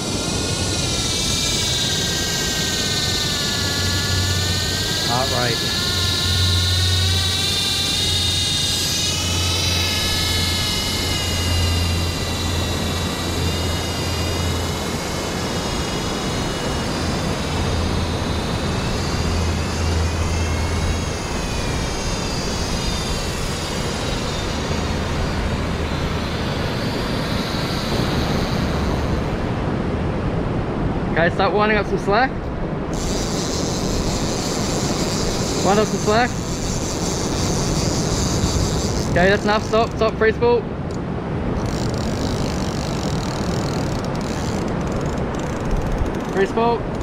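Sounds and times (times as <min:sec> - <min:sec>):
drone propellers whining: 0:00.0 - 0:47.0
wind: 0:00.0 - 0:47.0.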